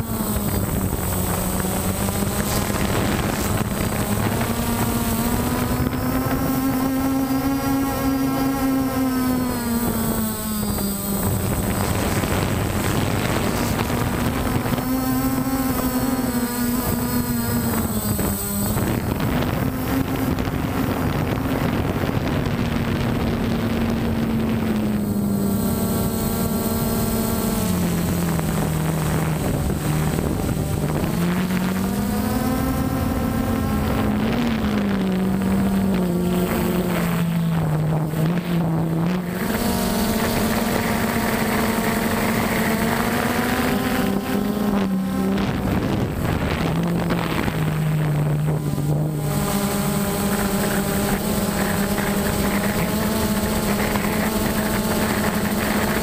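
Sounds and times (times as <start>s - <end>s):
drone motors humming: 0.0s - 56.0s.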